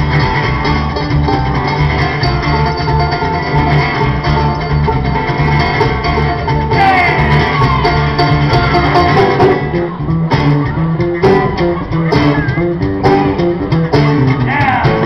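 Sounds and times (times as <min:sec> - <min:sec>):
banjo: 0:00.0 - 0:15.0
cajon beat: 0:00.0 - 0:15.0
live folk band playing: 0:00.0 - 0:15.0.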